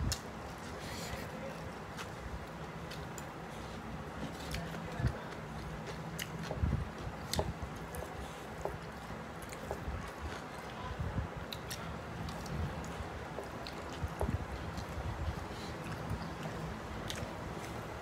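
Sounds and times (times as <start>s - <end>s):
close-up chewing and mouth smacks: 1.5s - 10.8s, 11.4s - 18.0s.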